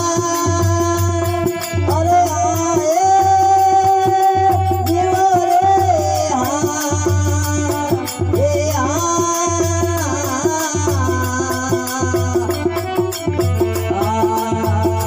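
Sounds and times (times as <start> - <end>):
high jingling beat: 0.0 - 15.0.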